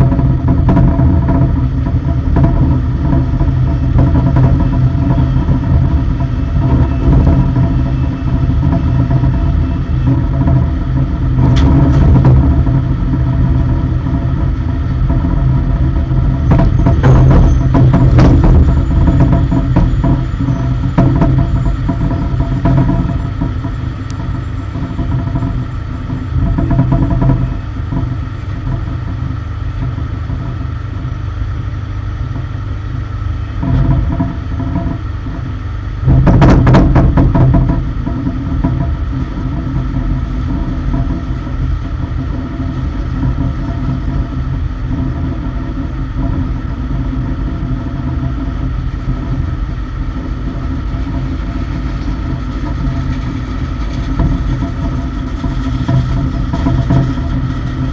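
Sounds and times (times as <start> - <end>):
rattling clatter: 0.0 - 30.6, 33.6 - 57.9
loader engine running: 0.0 - 57.9
steady whine: 0.0 - 57.9.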